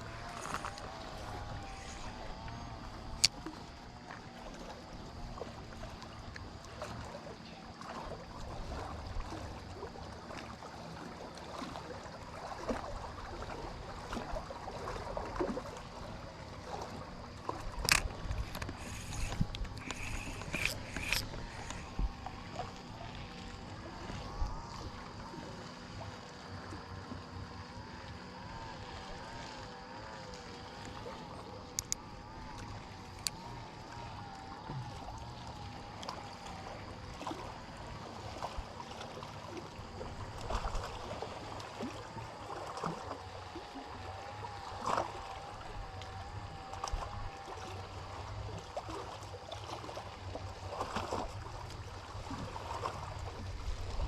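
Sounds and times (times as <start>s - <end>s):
boat engine running: 0.0s - 54.0s
water sounds: 0.0s - 54.0s.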